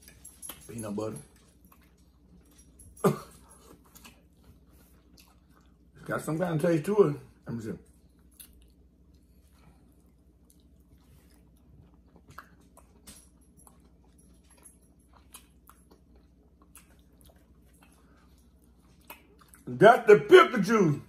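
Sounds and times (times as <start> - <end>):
faint chewing: 0.0 - 6.4, 7.8 - 19.8.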